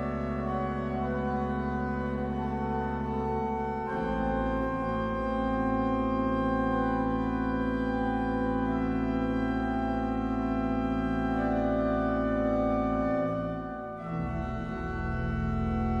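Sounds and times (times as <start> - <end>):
slow music of sustained chords: 0.0 - 16.0.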